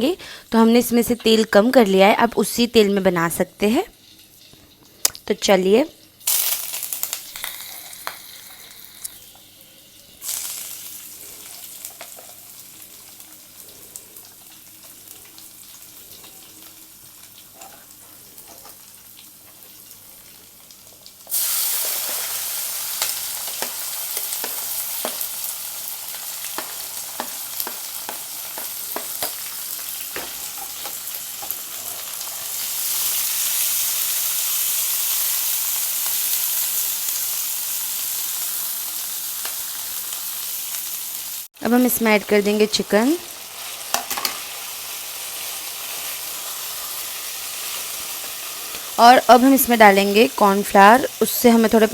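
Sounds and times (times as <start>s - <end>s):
food sizzling in oil: 0.0s - 51.9s.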